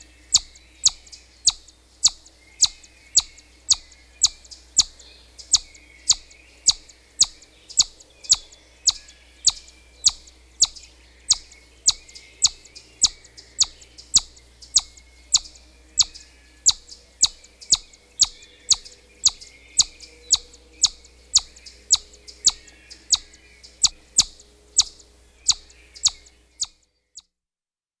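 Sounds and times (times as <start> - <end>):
squirrel chirping: 0.0 - 26.8.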